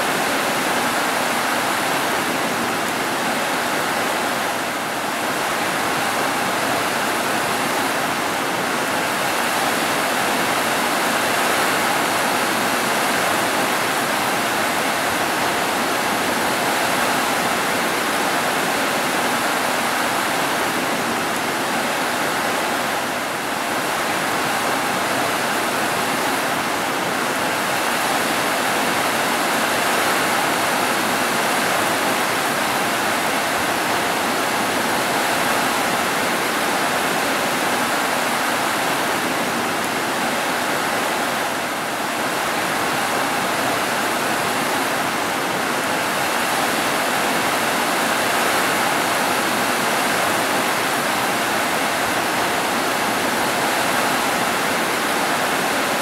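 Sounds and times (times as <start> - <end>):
rain on a tile roof: 0.0 - 56.0.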